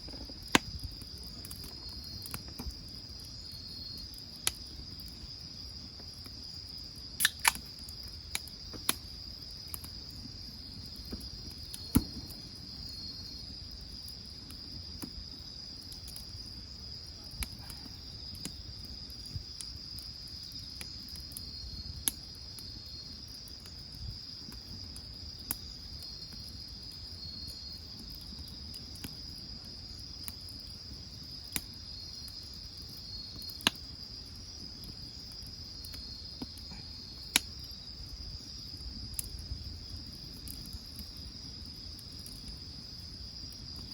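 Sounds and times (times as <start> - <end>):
firewood popping and crackling: 0.0 - 43.9
insects chirping: 0.0 - 43.9.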